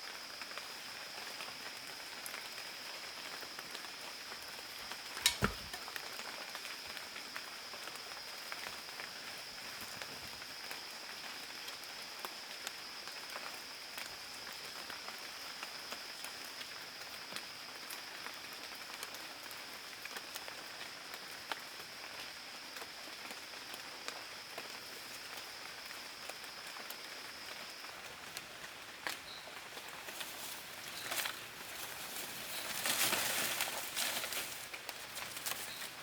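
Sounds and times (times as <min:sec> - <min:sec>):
small scattered ticks and pattering: 0:00.0 - 0:36.0.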